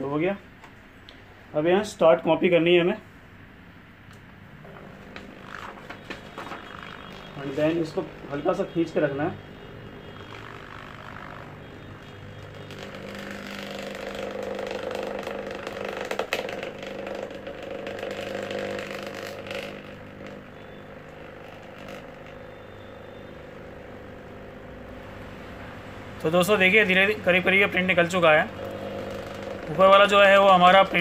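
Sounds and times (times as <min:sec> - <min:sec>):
copier motor humming: 0:04.2 - 0:31.0.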